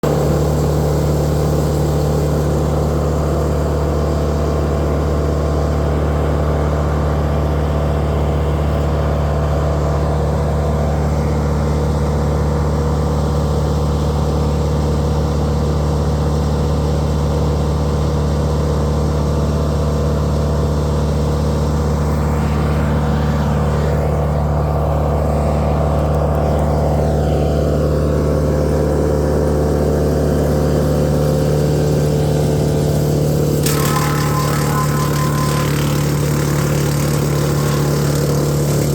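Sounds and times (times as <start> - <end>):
engine droning: 0.0 - 38.9.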